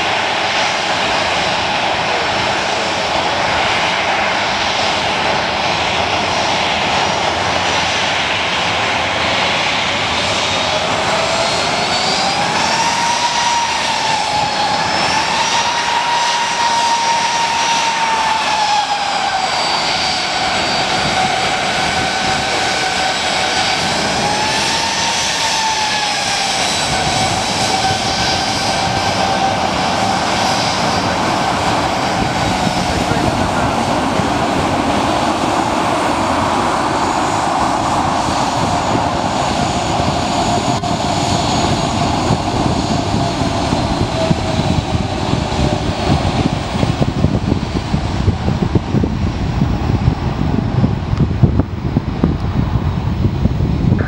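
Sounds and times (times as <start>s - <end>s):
jet engines rushing and whining: 0.0s - 54.0s.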